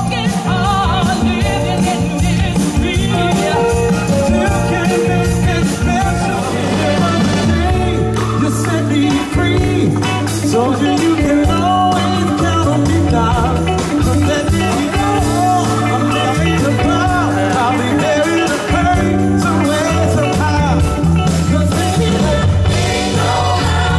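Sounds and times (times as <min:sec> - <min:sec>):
live band playing soul music: 0:00.0 - 0:23.9
person singing: 0:00.0 - 0:23.9.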